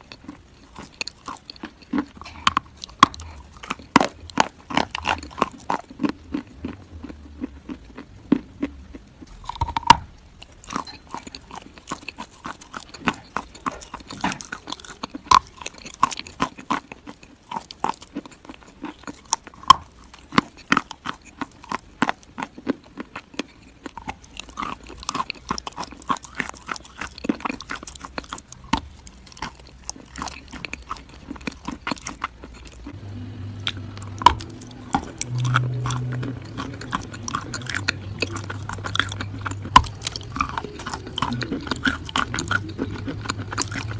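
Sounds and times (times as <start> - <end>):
crunchy food chewing: 0.0 - 43.9
faint low hum: 0.0 - 43.9.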